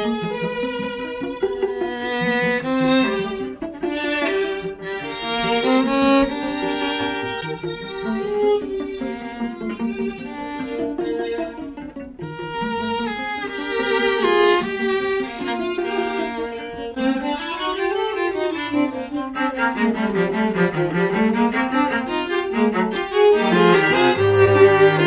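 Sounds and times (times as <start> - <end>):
string quartet playing: 0.0 - 25.0.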